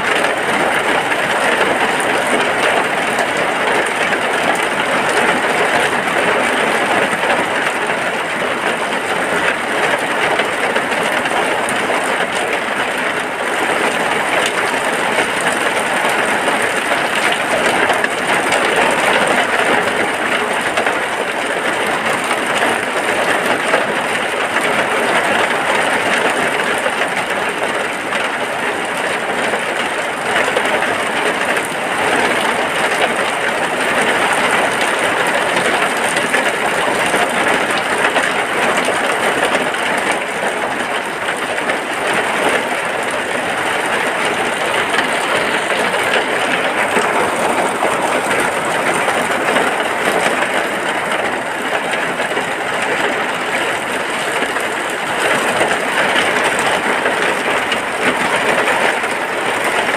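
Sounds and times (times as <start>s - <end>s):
rain falling on a hut: 0.0s - 59.9s.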